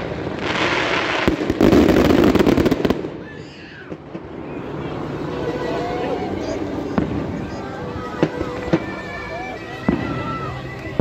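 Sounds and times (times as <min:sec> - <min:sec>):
fireworks launching and crackling: 0:00.0 - 0:11.0.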